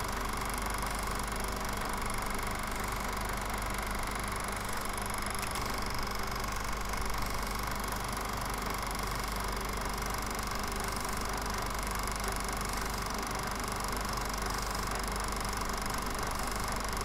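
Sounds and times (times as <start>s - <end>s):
film projector running: 0.0s - 17.0s.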